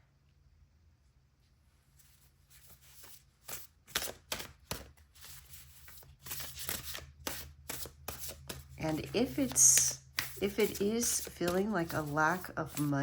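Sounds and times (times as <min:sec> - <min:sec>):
cards being shuffled: 0:02.0 - 0:13.0.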